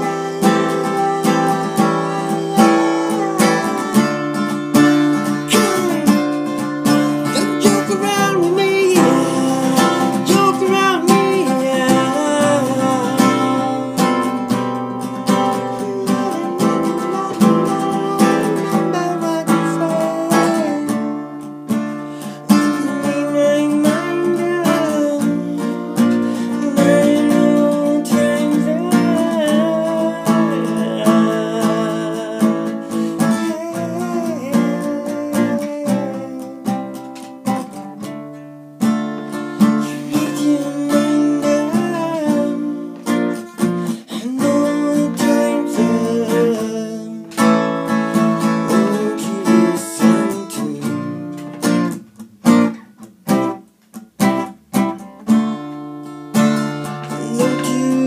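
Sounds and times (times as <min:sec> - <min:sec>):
man singing: 0:00.0 - 0:37.8, 0:39.3 - 0:52.0, 0:56.4 - 0:58.0
acoustic guitar strumming: 0:00.0 - 0:58.0.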